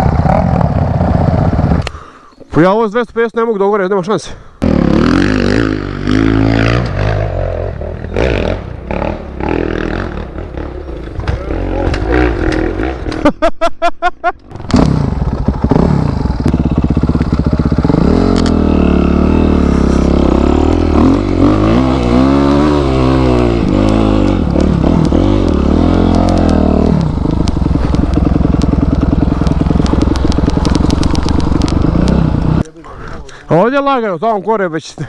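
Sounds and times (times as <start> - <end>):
motorcycle engine revving: 0.0 - 1.8, 4.6 - 13.3, 14.4 - 33.2.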